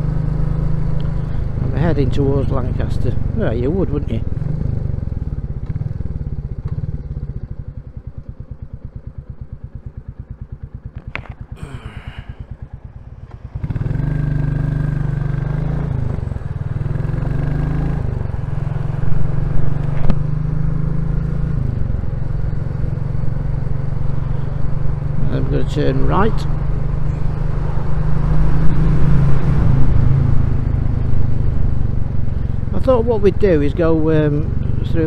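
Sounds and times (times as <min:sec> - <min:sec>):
motorcycle engine idling and accelerating: 0:00.0 - 0:35.0.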